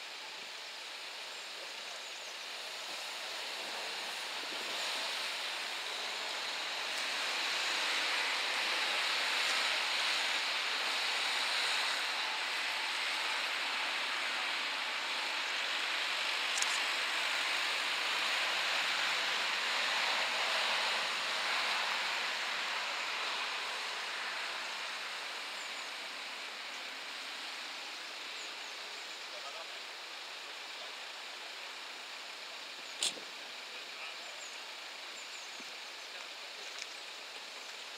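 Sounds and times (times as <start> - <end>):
tyres hissing on asphalt: 0.0 - 37.9.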